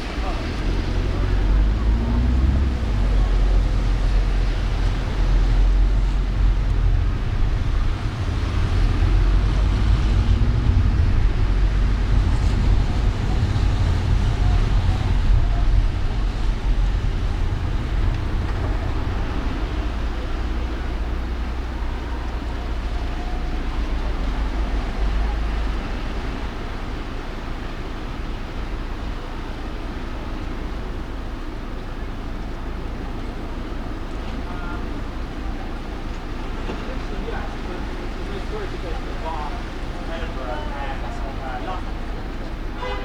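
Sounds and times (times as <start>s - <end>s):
car driving in traffic: 0.0s - 43.0s.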